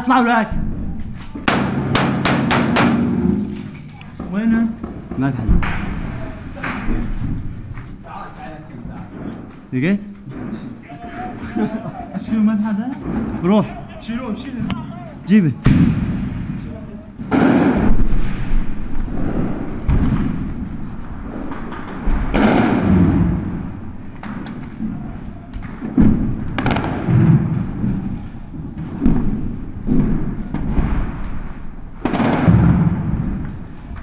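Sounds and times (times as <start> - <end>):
heavy echoing thuds and bangs: 0.3 - 11.0, 12.9 - 34.0.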